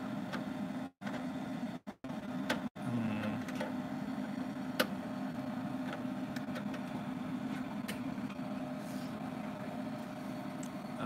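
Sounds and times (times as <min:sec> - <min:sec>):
inkjet printer humming: 0:00.0 - 0:11.0.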